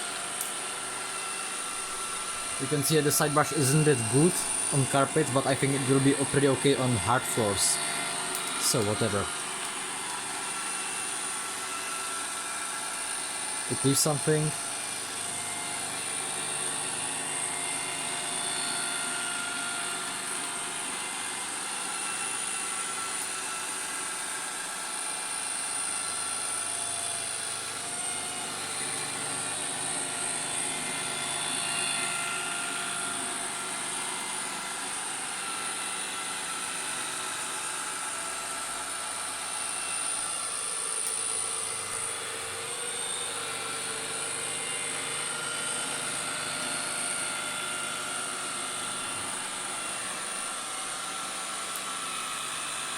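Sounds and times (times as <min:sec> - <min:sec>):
robot vacuum whining: 0:00.0 - 0:52.9.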